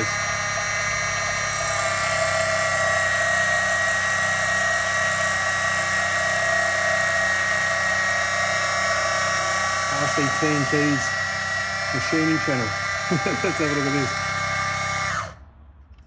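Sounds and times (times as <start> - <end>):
lathe motor whining: 0.0 - 15.4.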